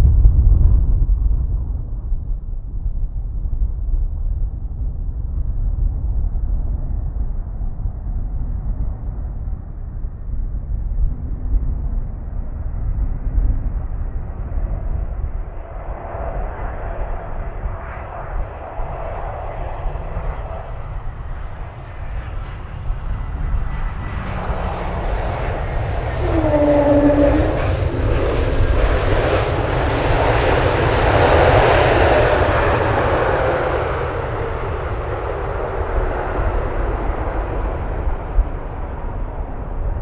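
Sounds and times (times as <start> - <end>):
jet engine roar: 5.8 - 40.0.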